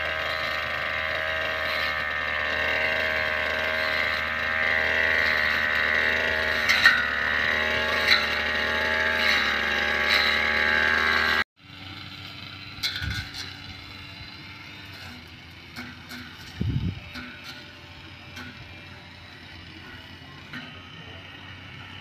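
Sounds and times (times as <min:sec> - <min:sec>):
brush cutter engine running: 0:00.0 - 0:22.0.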